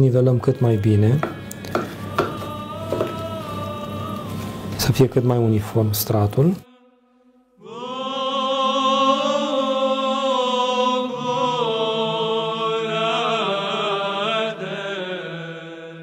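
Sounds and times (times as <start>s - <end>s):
choir singing chant: 0.5s - 5.6s, 6.4s - 16.0s.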